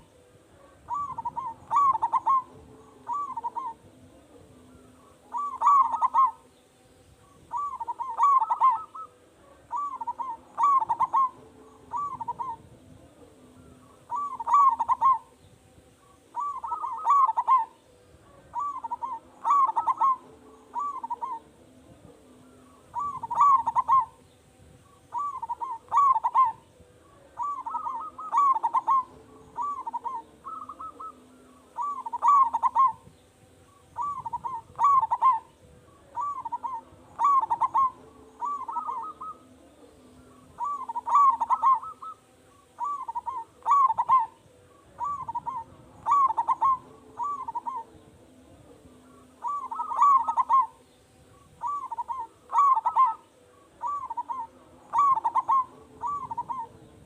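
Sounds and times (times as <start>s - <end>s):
dove cooing: 0.0s - 6.6s, 7.2s - 57.0s.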